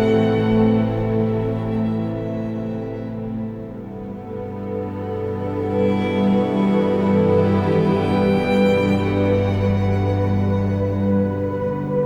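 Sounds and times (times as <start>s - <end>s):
slow sad string music: 0.0s - 12.0s.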